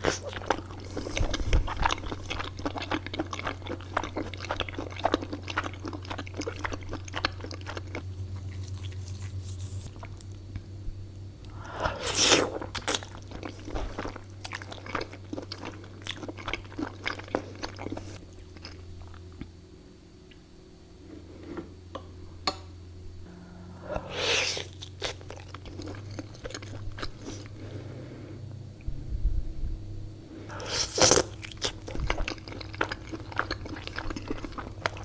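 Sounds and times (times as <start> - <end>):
person chewing and crunching food: 0.0 - 19.5, 23.2 - 28.1, 30.5 - 35.0.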